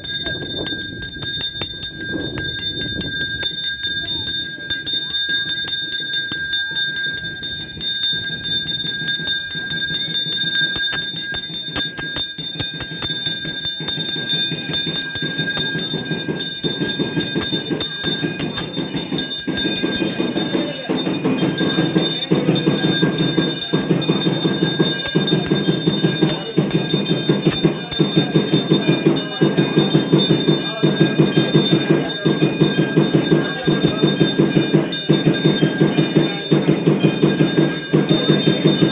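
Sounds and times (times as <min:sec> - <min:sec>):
low rhythmic pulsing: 0:00.0 - 0:38.9
temple bells ringing: 0:00.0 - 0:38.9.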